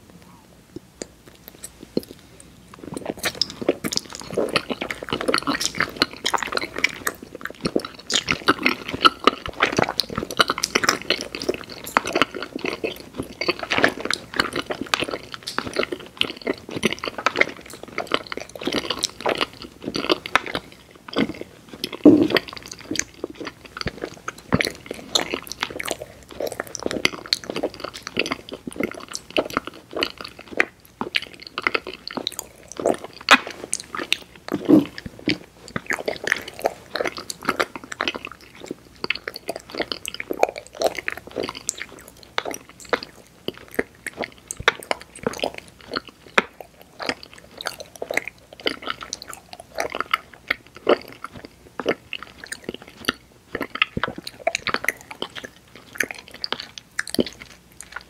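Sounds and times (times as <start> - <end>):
person chewing candy: 0.0 - 58.0.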